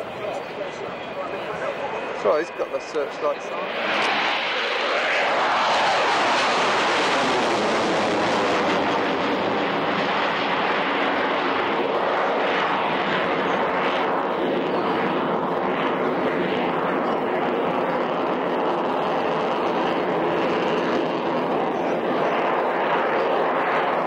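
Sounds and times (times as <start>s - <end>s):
jet fighter afterburner rumble: 0.0s - 24.0s.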